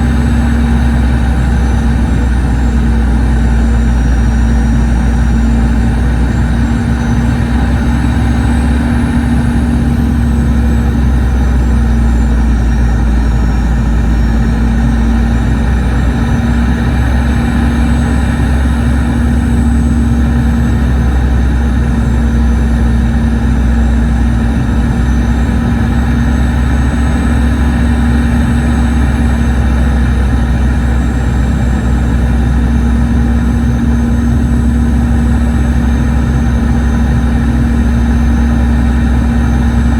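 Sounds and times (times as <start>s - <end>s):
faint high engine whine: 0.0s - 39.9s
jet engine rumble in cabin: 0.0s - 39.9s.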